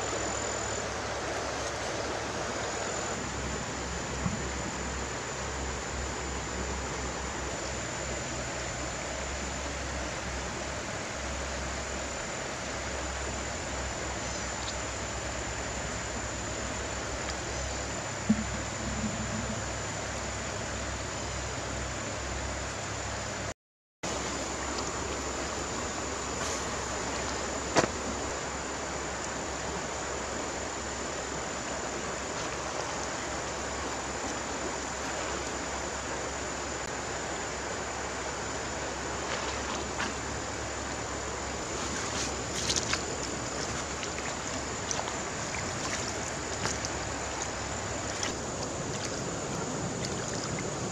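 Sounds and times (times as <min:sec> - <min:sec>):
river water flowing: 0:00.0 - 0:19.0, 0:24.1 - 0:50.9.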